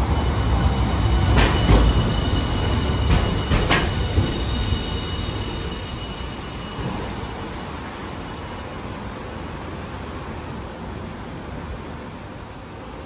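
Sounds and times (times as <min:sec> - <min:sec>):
tram rumble with high whine: 0:00.0 - 0:13.0.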